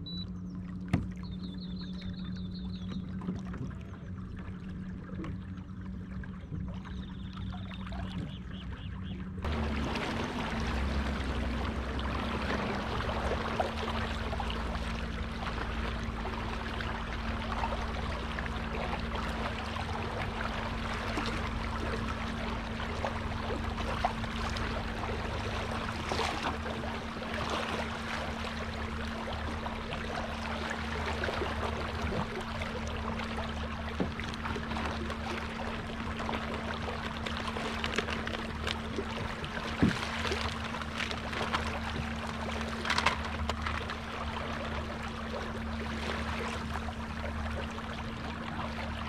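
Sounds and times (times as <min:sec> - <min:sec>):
low motor hum: 0:00.0 - 0:49.0
water splashing along hull: 0:00.0 - 0:49.0.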